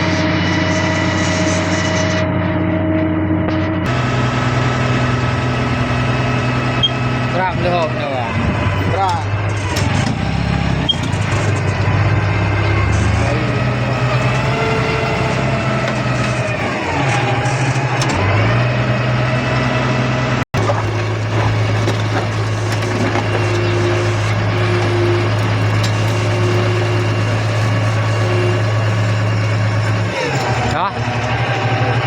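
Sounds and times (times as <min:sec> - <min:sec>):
heavy vehicle engine running: 0:00.0 - 0:32.0.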